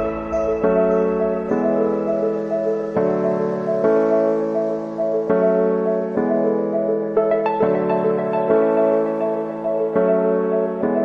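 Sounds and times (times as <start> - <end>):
soft slow piano instrumental: 0.0 - 11.0.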